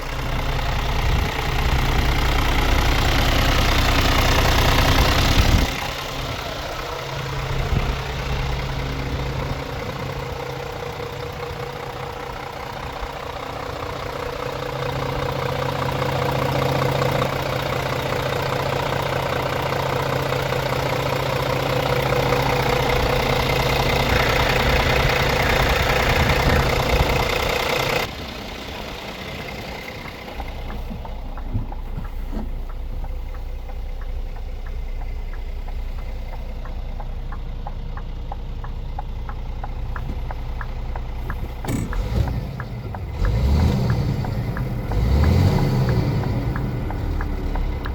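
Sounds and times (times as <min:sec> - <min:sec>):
truck diesel engine idling: 0:00.0 - 0:47.9.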